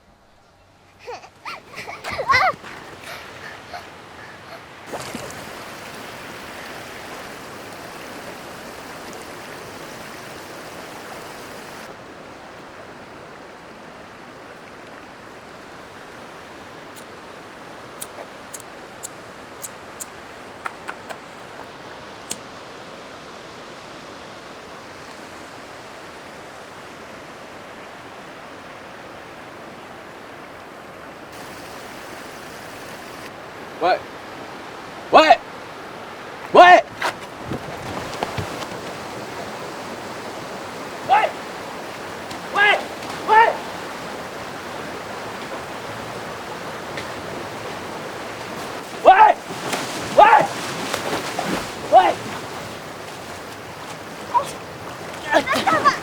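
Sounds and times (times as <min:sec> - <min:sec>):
flowing water rushing: 0:00.9 - 0:56.0.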